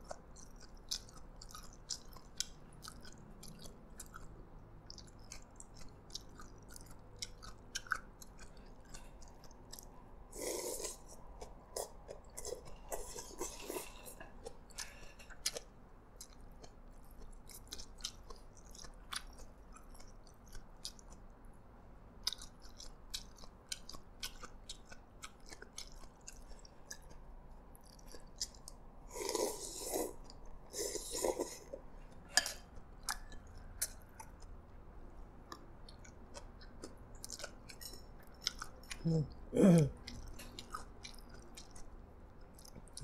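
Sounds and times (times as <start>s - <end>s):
chewing with wet mouth clicks: 0.0s - 10.0s, 11.0s - 21.4s, 22.2s - 29.4s, 30.2s - 34.8s, 35.4s - 39.4s, 40.0s - 43.0s.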